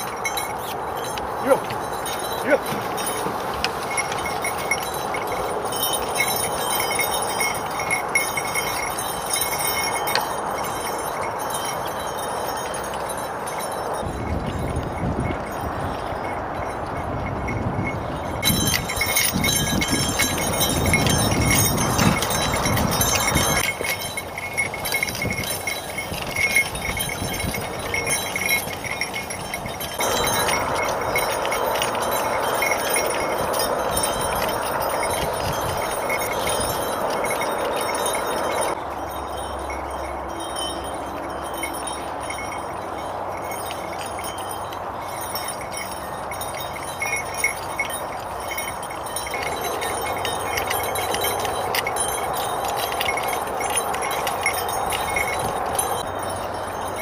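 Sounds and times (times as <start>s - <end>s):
metal harness jingling: 0.0s - 57.0s
rushing background noise: 0.0s - 57.0s.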